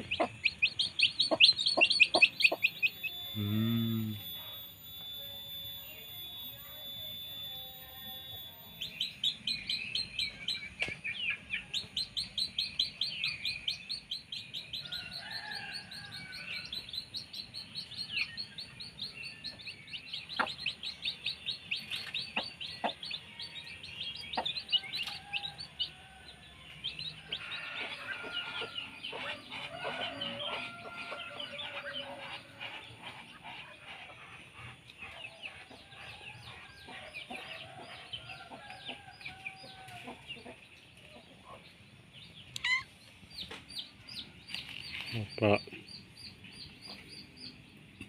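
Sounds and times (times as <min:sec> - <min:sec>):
chickens clucking: 0:00.0 - 0:03.5, 0:09.0 - 0:48.0
high-pitched bird chirping: 0:00.0 - 0:40.6, 0:42.2 - 0:47.7.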